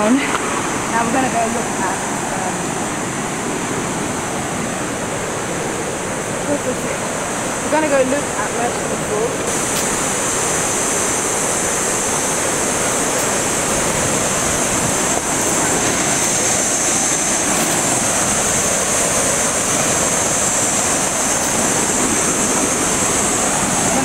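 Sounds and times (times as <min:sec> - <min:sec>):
steady high hiss: 0:00.0 - 0:24.0
white-water rapids rushing: 0:00.0 - 0:24.0.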